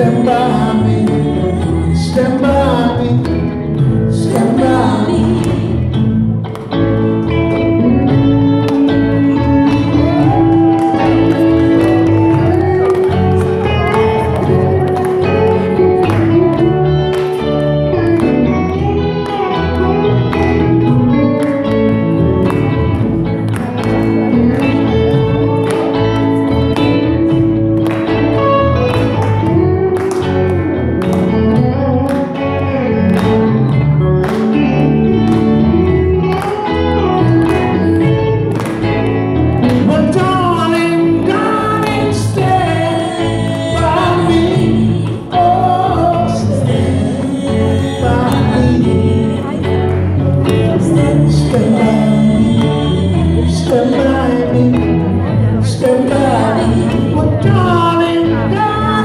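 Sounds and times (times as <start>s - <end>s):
cajon beat: 0.0s - 55.1s
acoustic guitar: 0.0s - 59.0s
electric guitar: 0.0s - 59.0s
held melody line: 0.0s - 59.0s.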